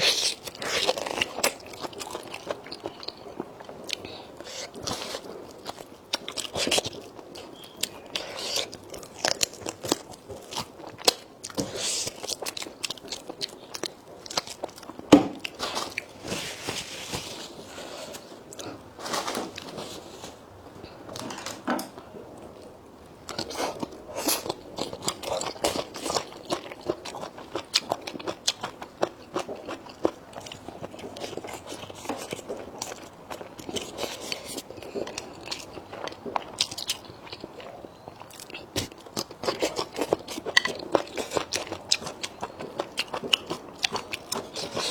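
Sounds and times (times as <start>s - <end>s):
person chewing crunchy food: 0.0s - 18.8s, 22.4s - 44.9s.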